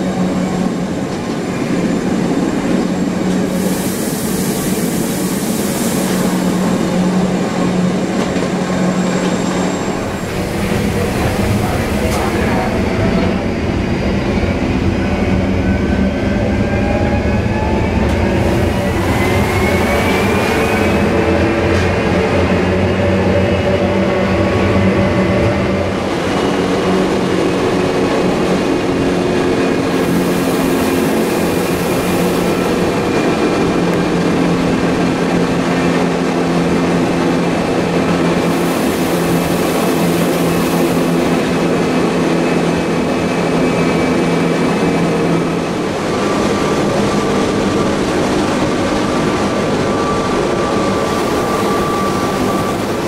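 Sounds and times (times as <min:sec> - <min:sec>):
electric train droning and whining: 0:00.0 - 0:53.0.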